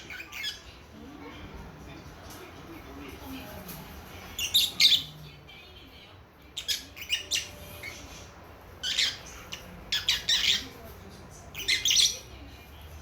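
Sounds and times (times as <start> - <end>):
lovebirds chirping and squawking: 0.0 - 1.7, 3.6 - 13.0.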